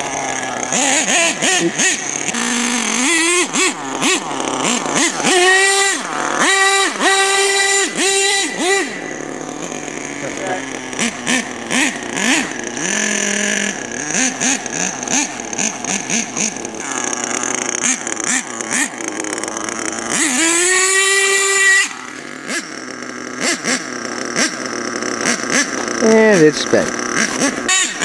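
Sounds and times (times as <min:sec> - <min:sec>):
small engine revving: 0:00.0 - 0:28.0.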